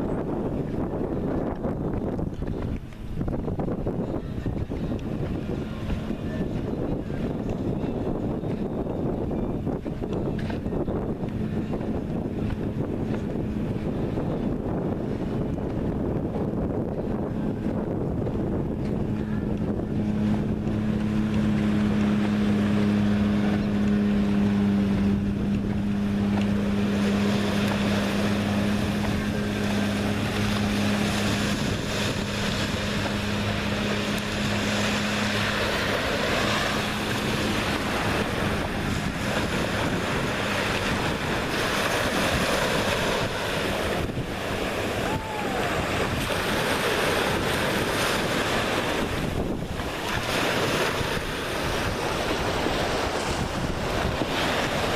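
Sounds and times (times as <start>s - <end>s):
low engine drone: 0.0s - 54.9s
wind buffeting microphone: 0.0s - 54.9s
surf washing onto beach: 9.8s - 54.9s.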